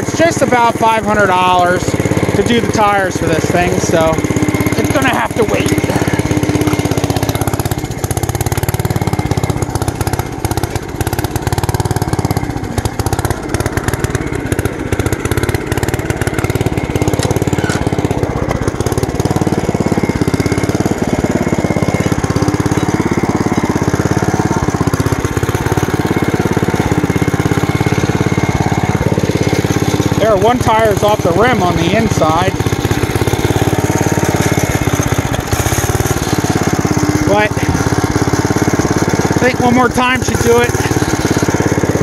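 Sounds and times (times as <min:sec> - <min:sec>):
single-cylinder engine running unevenly: 0:00.0 - 0:42.0.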